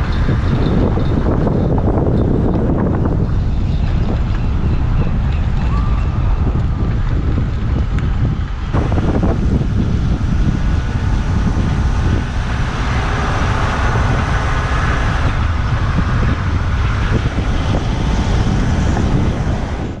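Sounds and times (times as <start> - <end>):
boat engine rumble: 0.0 - 20.0
wind buffeting microphone: 0.0 - 20.0.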